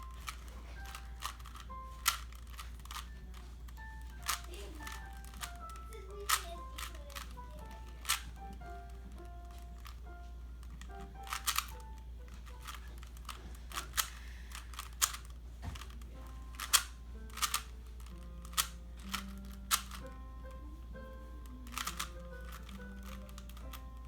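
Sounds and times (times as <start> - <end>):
puzzle cube twisting clicks: 0.0 - 20.6, 21.3 - 24.0
faint held music notes: 0.0 - 24.0.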